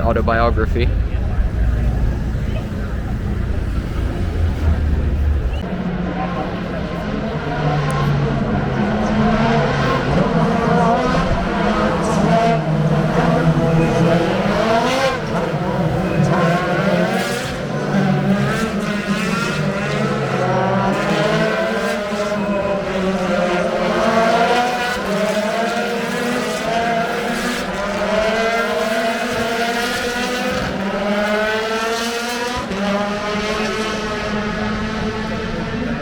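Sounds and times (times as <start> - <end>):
race car engines accelerating: 0.0 - 36.0.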